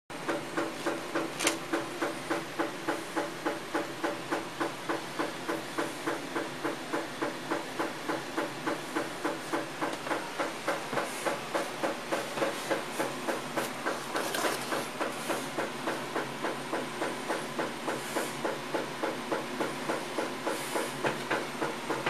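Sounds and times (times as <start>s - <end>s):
washing machine pulsing: 0.1s - 22.0s.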